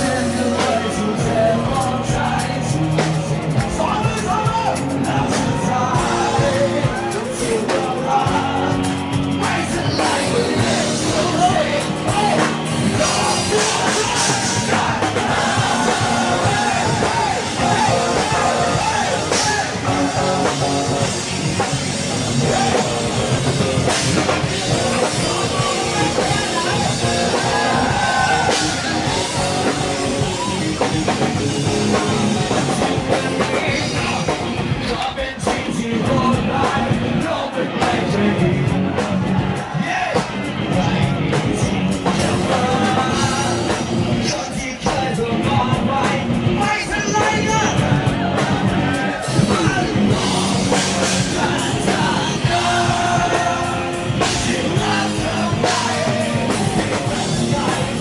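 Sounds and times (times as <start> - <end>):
drum kit: 0.0 - 58.0
electric guitar: 0.0 - 58.0
man singing: 0.0 - 58.0.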